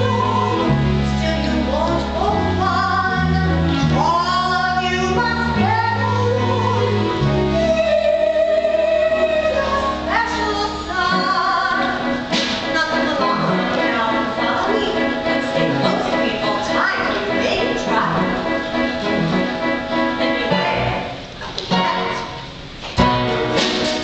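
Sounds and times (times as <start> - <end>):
instrumental backing with bass: 0.0 - 24.0.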